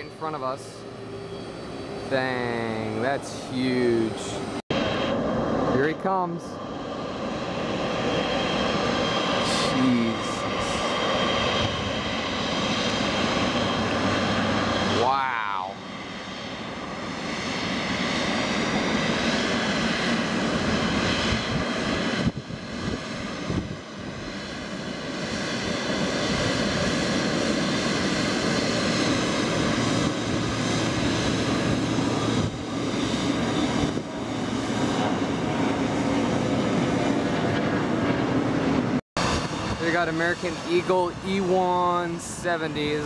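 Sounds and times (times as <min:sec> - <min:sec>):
jet engines taxiing: 0:00.0 - 0:43.0.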